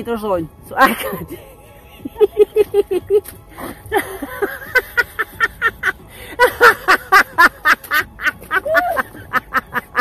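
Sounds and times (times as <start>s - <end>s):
woman laughing hard: 0.8s - 10.0s.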